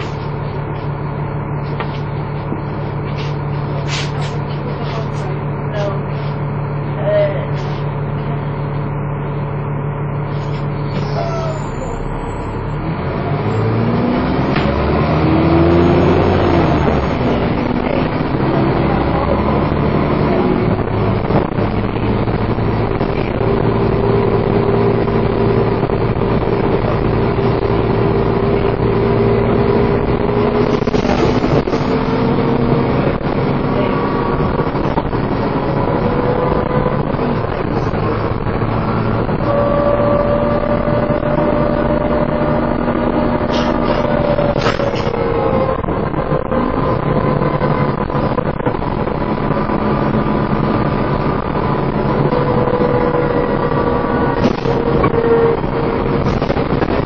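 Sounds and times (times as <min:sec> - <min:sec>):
bus engine revving with whine: 0:00.0 - 0:57.0.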